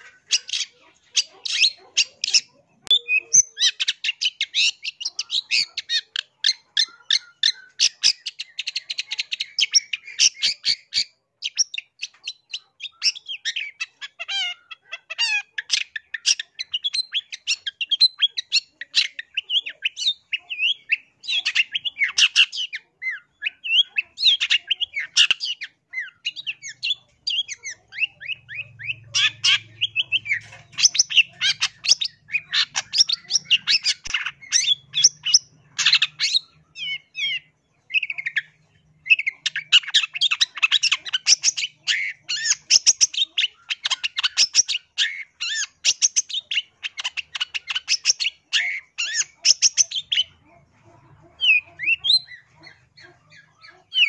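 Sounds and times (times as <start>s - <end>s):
bird singing chattering notes: 0.0s - 50.4s, 51.3s - 54.0s.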